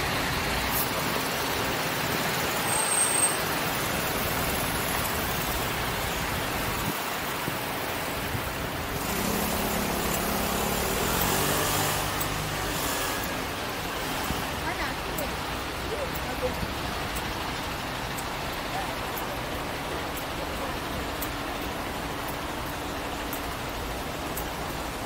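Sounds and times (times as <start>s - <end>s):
city road traffic: 0.0s - 25.0s
vehicle engine drone: 0.0s - 25.0s.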